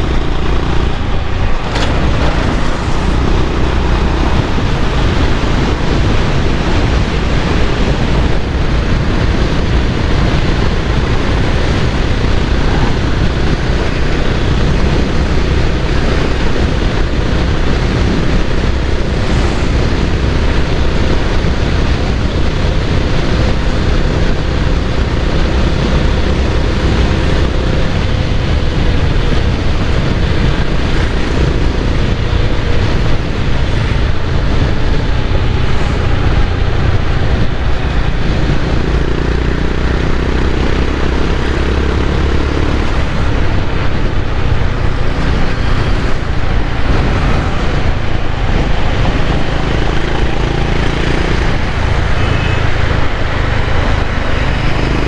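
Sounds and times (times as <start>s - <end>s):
motorcycle engine running: 0.0s - 55.0s
wind rush over microphone: 0.0s - 55.0s.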